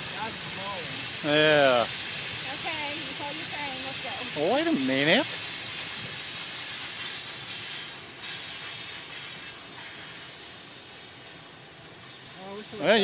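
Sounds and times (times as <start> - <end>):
train wheels hissing on rails: 0.0 - 13.0.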